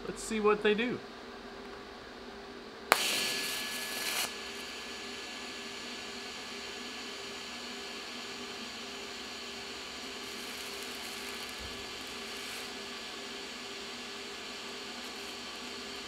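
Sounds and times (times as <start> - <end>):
welding arc hissing: 2.9 - 16.0.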